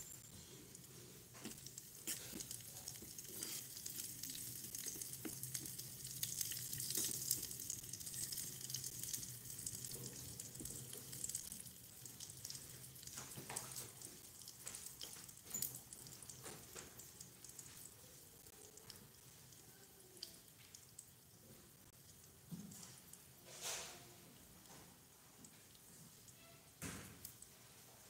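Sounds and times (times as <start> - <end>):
food sizzling in hot oil: 0.0 - 23.7.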